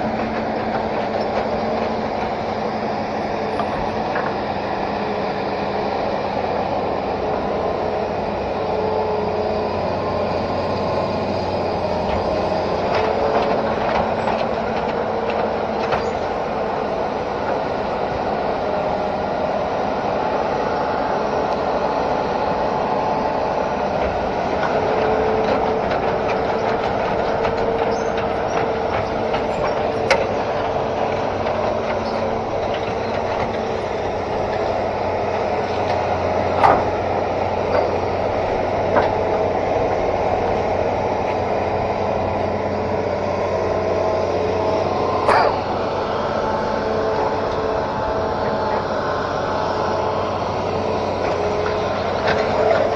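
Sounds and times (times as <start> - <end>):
excavator rattling on tracks: 0.0 - 52.9.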